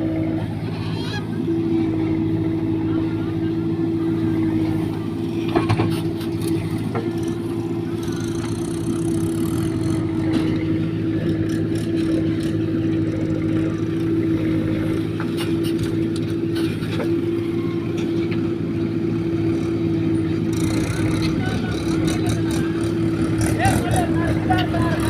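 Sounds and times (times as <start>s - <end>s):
diesel engine droning with whine: 0.0s - 25.0s.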